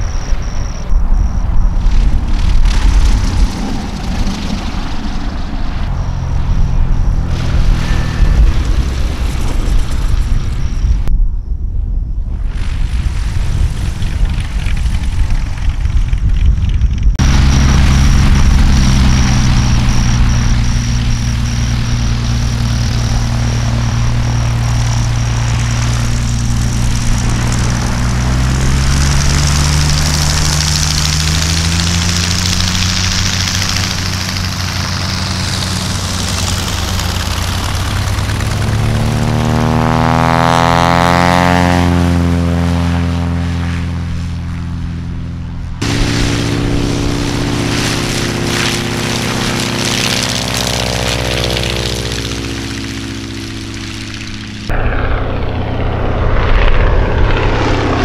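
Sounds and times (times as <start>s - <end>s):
light airplane engine droning: 0.0s - 58.0s.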